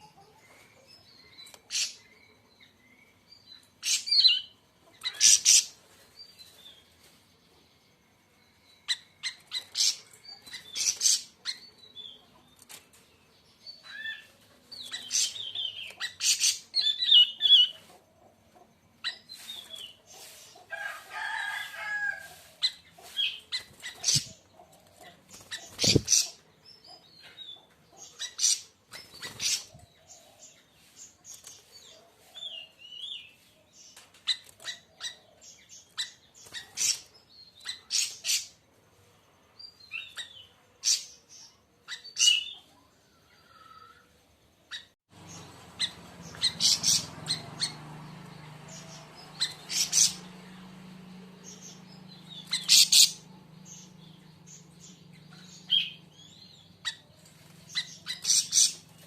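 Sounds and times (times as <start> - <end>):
bird chirping: 0.0 - 20.7, 22.3 - 59.0.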